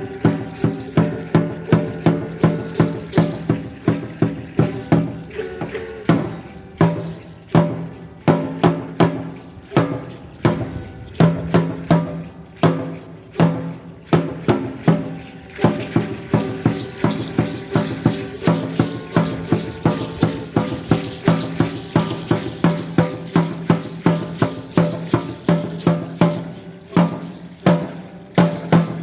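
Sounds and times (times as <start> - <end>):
ringing drum strikes: 0.0 - 29.0.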